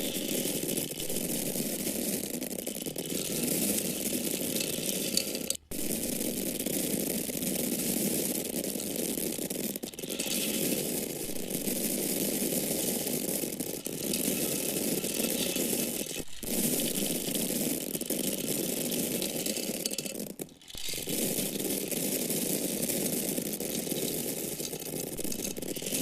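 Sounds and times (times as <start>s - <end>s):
dry corn kernels pouring: 0.0s - 26.0s.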